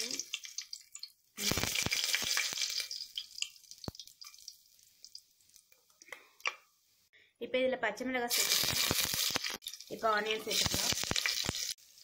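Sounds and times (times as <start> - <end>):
oil crackling and popping: 0.0 - 6.7, 8.3 - 12.0
spices sizzling in hot oil: 0.0 - 7.0, 8.1 - 12.0.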